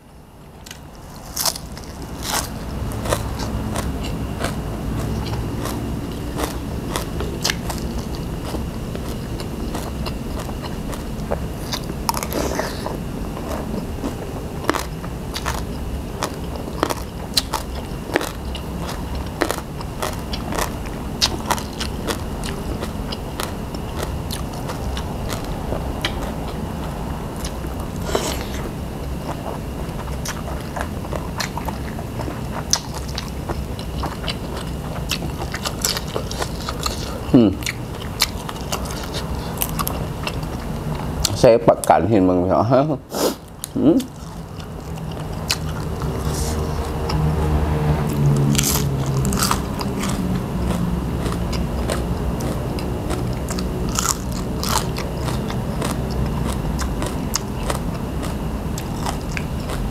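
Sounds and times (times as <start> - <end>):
chewing with crunches: 0.6 - 42.0, 43.3 - 59.9.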